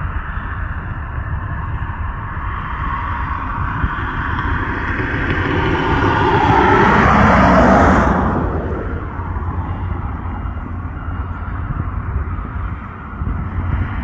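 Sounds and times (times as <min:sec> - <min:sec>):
steady low rumble: 0:00.0 - 0:14.0
vehicle passing by: 0:02.5 - 0:14.0.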